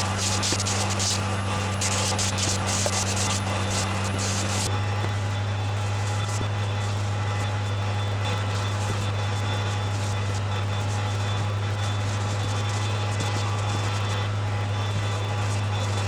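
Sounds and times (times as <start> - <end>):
machine drone: 0.0 - 16.0.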